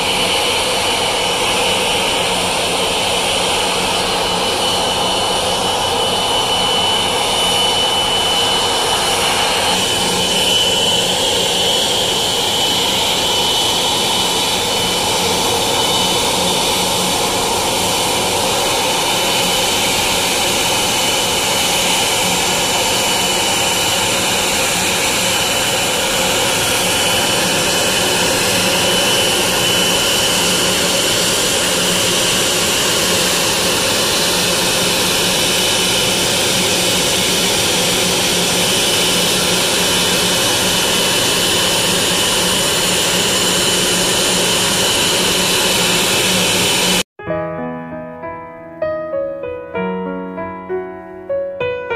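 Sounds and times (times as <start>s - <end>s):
jet engines idling: 0.0s - 47.1s.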